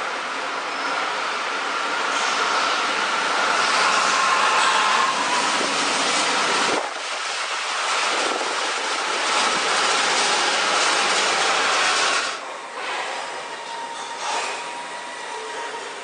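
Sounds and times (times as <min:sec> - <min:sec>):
train rushing by: 0:00.0 - 0:16.0.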